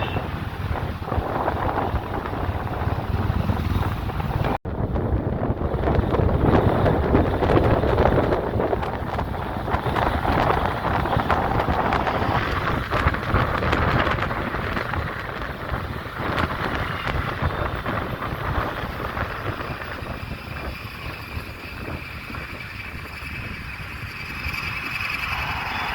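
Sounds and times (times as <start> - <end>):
road traffic: 0.0 - 25.9
wind buffeting microphone: 0.0 - 25.9.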